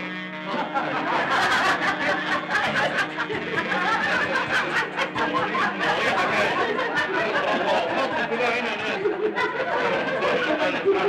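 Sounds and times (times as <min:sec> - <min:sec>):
background music: 0:00.0 - 0:11.0
people laughing and chattering: 0:00.0 - 0:11.0.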